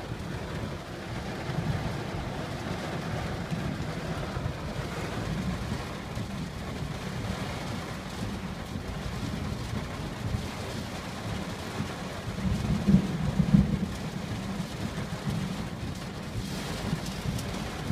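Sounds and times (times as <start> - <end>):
heavy rain on car roof: 0.0 - 17.9.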